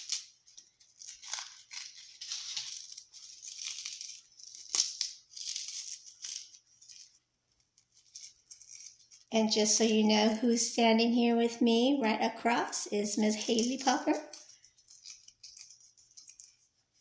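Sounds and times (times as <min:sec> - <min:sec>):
bread crumbling crackle: 0:00.0 - 0:10.6, 0:13.2 - 0:17.0.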